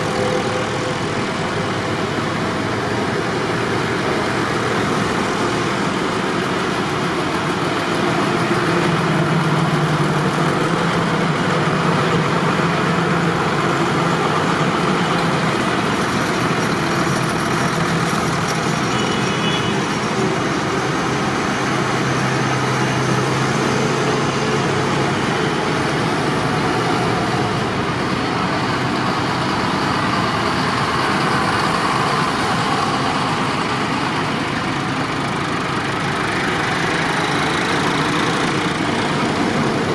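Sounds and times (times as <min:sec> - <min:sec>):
tractor engines droning: 0:00.0 - 0:39.9.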